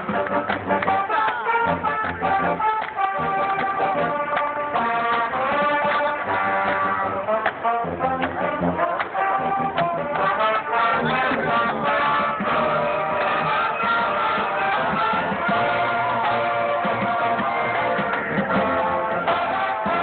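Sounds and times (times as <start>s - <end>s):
marching band brass melody: 0.0s - 20.0s.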